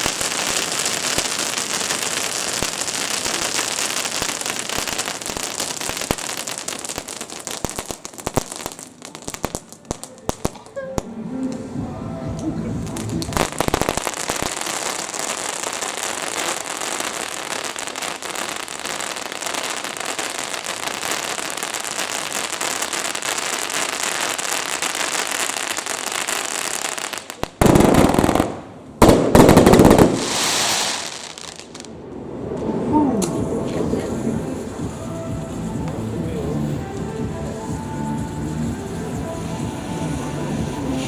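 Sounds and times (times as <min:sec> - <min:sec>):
loud rushing firework bursts: 0:00.0 - 0:12.0, 0:12.8 - 0:41.0
fireworks crackling: 0:00.0 - 0:41.0.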